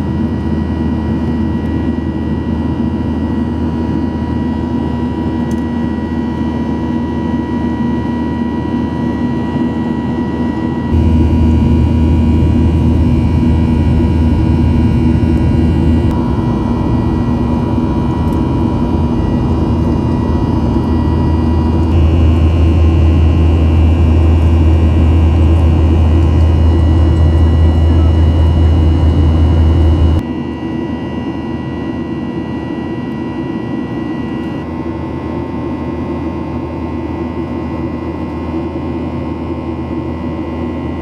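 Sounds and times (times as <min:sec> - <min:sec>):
jet engine cabin drone: 0:00.0 - 0:41.0.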